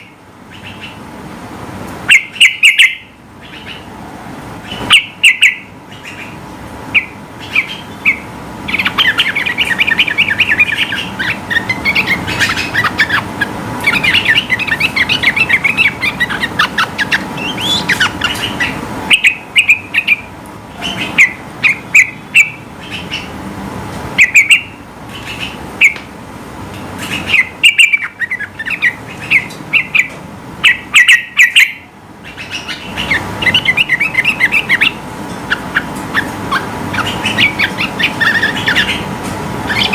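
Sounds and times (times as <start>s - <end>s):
bird warbling song: 0.0s - 1.1s, 2.1s - 3.9s, 4.6s - 23.4s, 24.2s - 26.0s, 27.0s - 39.9s.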